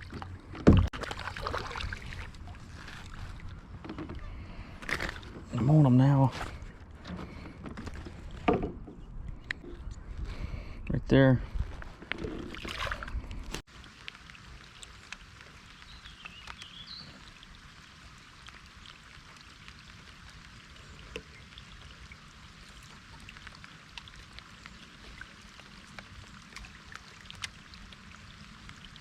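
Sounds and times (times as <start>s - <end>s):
lakeside water noise: 0.0s - 29.0s.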